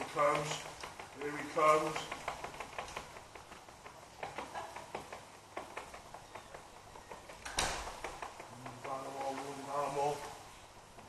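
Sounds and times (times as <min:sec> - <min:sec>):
light taps and clicks: 0:00.0 - 0:11.0.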